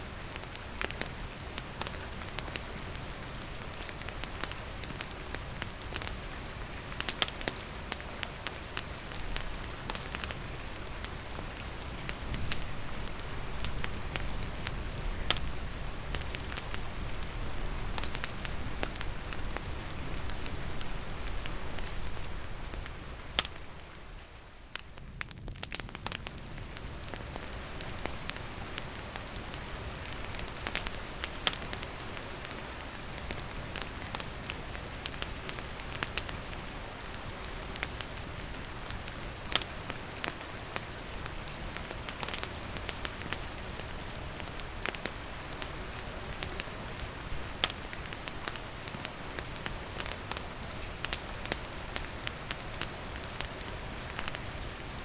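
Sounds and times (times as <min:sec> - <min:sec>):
rain falling: 0:00.0 - 0:55.0
campfire crackling and popping: 0:00.2 - 0:55.0.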